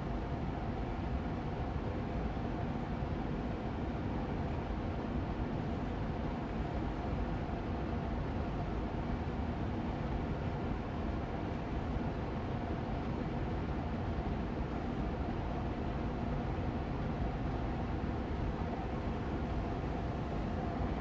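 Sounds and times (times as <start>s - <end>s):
air purifier fan humming: 4.0s - 21.0s.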